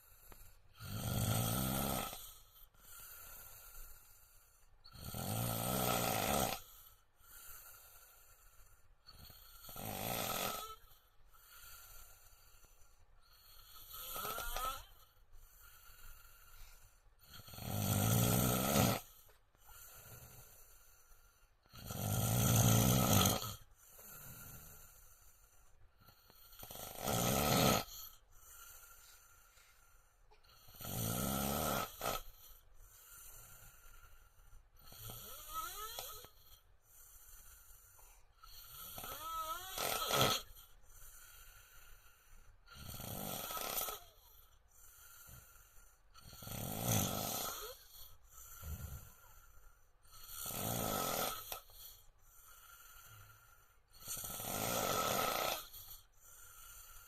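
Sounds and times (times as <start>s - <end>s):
man snoring loudly: 0.1s - 4.2s, 4.9s - 8.4s, 9.1s - 21.0s, 21.6s - 25.2s, 26.0s - 28.9s, 30.4s - 37.7s, 38.4s - 49.4s, 50.0s - 57.0s.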